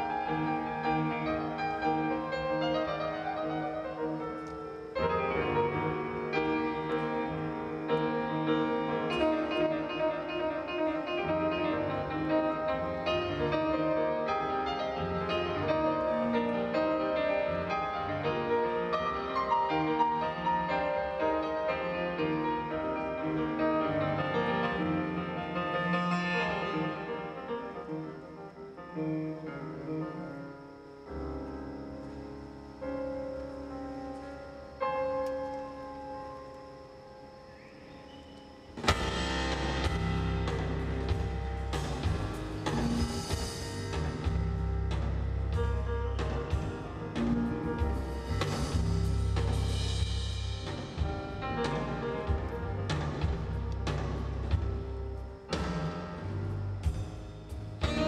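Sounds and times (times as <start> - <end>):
solo piano chords and melody: 0.0 - 58.0.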